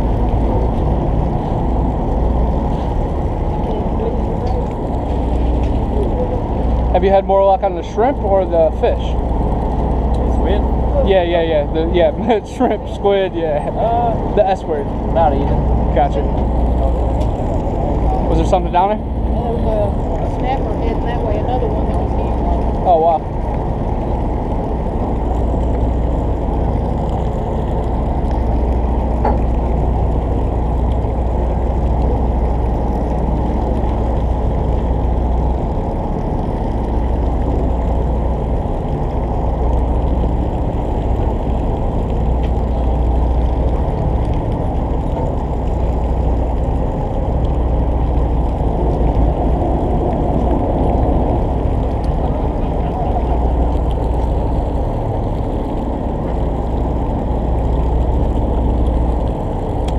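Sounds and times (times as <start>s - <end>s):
boat engine idling: 0.0s - 59.9s
water noise: 0.0s - 59.9s
wind: 0.0s - 59.9s.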